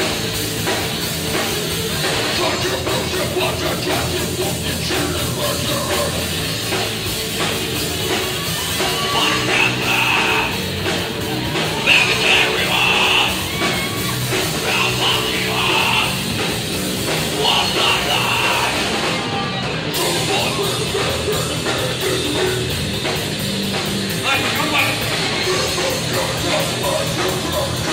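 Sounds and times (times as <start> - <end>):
metal band playing live: 0.0 - 27.9
yelled vocals: 0.0 - 27.9.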